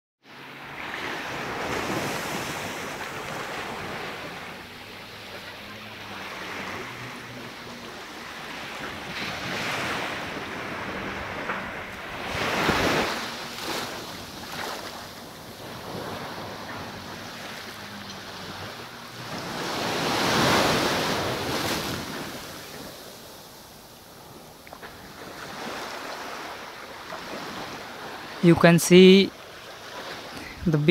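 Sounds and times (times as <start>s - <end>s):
small surf washing onto sand: 0.6s - 28.5s.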